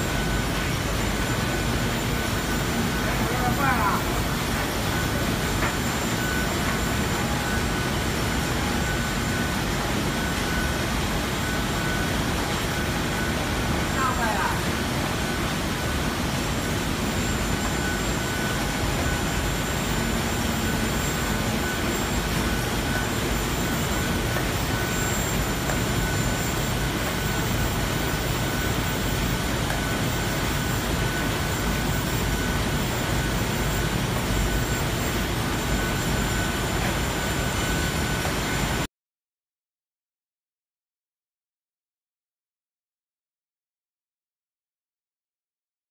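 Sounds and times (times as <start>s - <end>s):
labeling machine humming: 0.0s - 38.8s
faint high machine whine: 0.0s - 38.9s.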